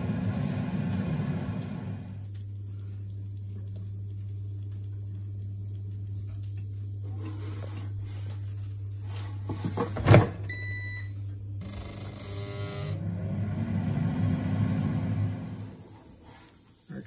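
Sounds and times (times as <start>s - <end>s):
air fryer fan humming: 0.0s - 17.0s.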